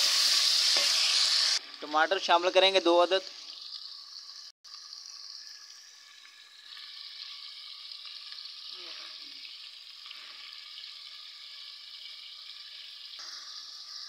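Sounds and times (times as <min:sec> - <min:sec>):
potatoes sizzling in a pot: 0:00.0 - 0:14.0.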